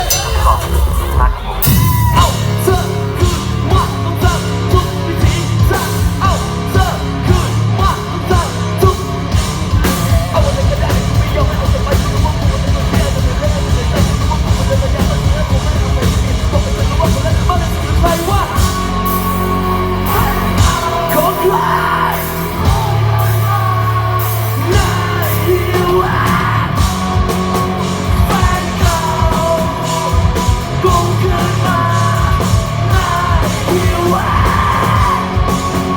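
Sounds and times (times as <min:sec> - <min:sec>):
fast driving drum beat: 0:00.0 - 0:35.9
heavy bass: 0:00.0 - 0:35.9
person yelling and singing: 0:00.0 - 0:35.9.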